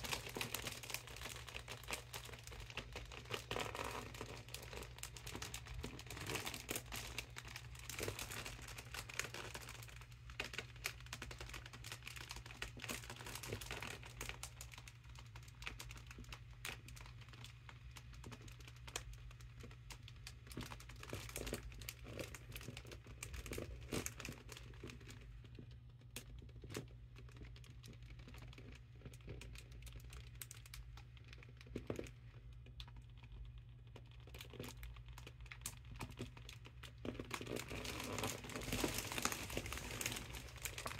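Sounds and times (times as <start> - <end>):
foil balloon crinkling: 0.0 - 40.9.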